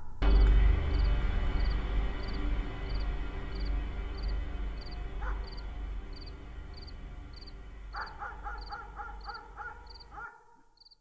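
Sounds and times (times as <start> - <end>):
deep drone: 0.2 - 10.2.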